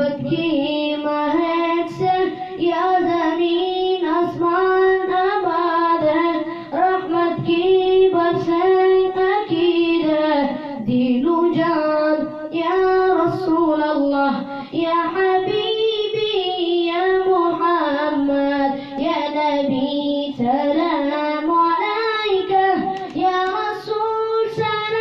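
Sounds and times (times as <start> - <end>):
boy singing into microphone: 0.0 - 25.0.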